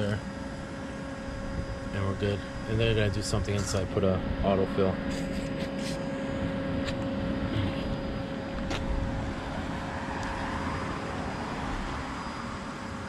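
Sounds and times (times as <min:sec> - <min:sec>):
distant engine drone: 0:00.0 - 0:13.0.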